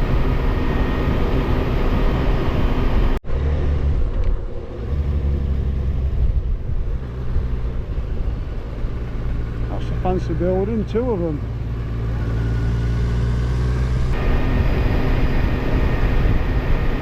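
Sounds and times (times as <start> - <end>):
wind rush: 0.0 - 10.2, 13.2 - 17.0
motorcycle engine hum: 0.0 - 17.0.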